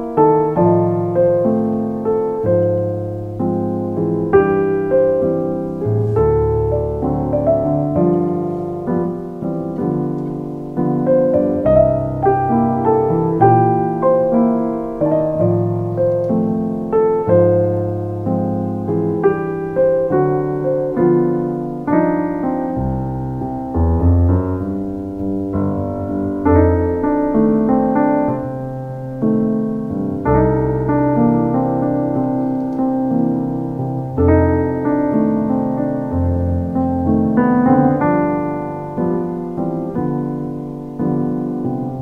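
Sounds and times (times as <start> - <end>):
slow gentle piano melody: 0.0 - 42.0.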